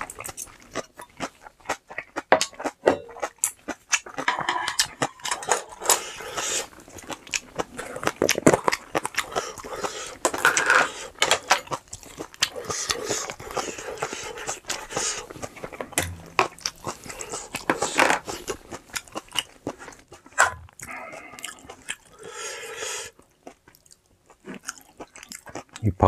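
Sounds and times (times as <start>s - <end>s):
person chewing crunchy food: 0.0s - 25.8s.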